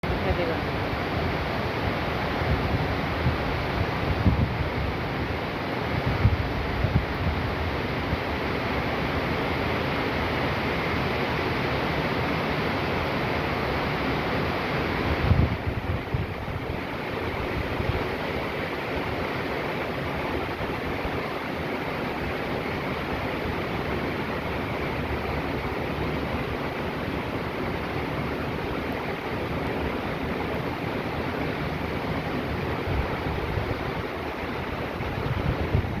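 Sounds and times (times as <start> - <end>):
heavy rain pouring: 0.0 - 36.0
wind gusts on microphone: 0.0 - 36.0.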